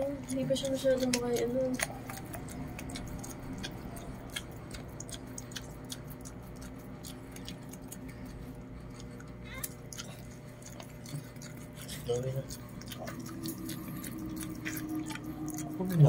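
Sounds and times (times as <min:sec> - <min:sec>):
dog licking puppies: 0:00.0 - 0:16.0
low steady hum: 0:00.0 - 0:16.0.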